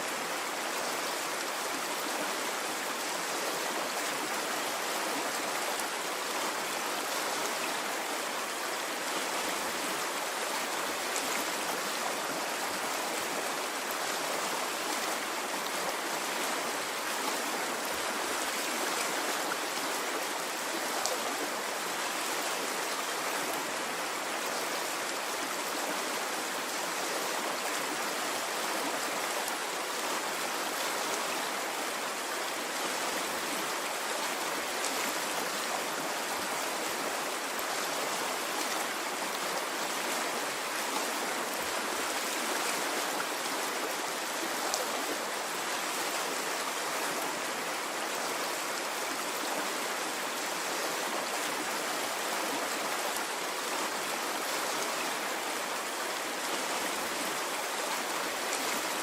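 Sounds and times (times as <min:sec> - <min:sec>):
stream water rushing and gurgling: 0:00.0 - 0:59.0.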